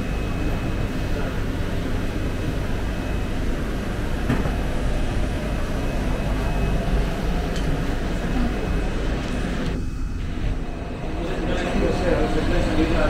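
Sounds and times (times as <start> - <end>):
faint steady whine: 0.0 - 13.0
machinery rumbling: 0.0 - 13.0.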